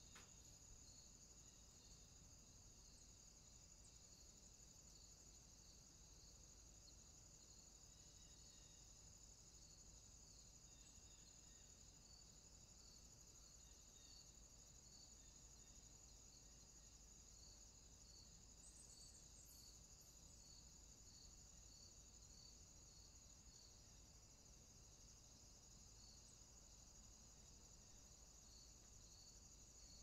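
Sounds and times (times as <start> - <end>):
high-pitched insect trill: 0.0 - 30.0
soft pulsing insect sound: 0.0 - 30.0.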